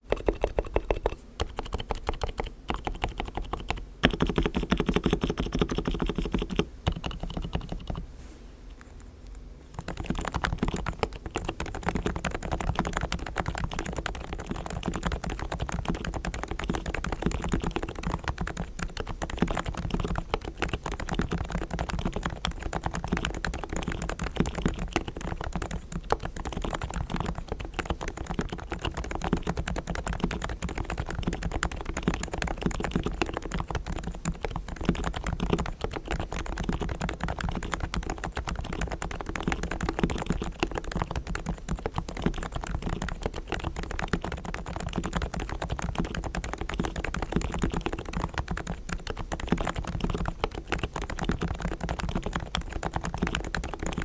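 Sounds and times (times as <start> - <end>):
fast keyboard typing: 0.0 - 8.1, 9.7 - 54.0.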